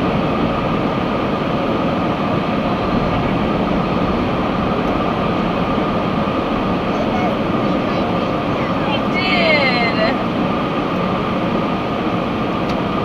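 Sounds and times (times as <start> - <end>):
car wash rushing noise: 0.0 - 13.0.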